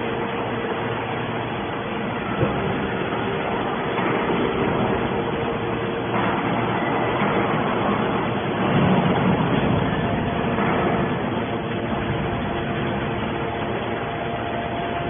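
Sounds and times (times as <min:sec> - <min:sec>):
metal baler machinery running: 0:00.0 - 0:15.0.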